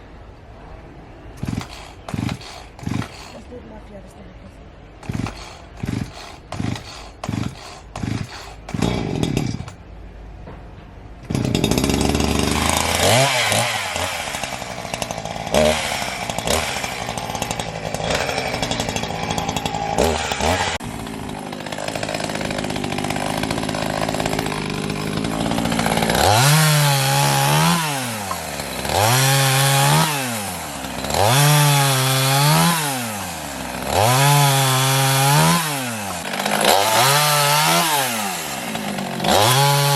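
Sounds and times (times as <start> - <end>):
chainsaw starter cord pulls: 1.4 - 3.4, 5.0 - 9.8, 11.2 - 39.9
chainsaw engine revving: 1.4 - 3.5, 5.0 - 9.8, 11.2 - 39.9.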